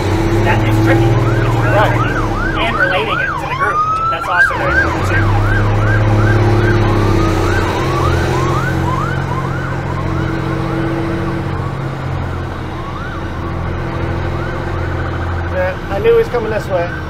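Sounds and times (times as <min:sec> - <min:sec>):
diesel engine drone: 0:00.0 - 0:17.0
siren yelping: 0:00.0 - 0:17.0.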